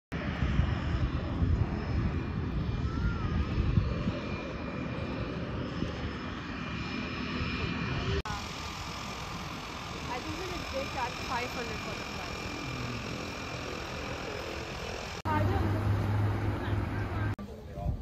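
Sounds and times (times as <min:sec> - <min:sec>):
propeller engine drone: 0:00.1 - 0:17.7.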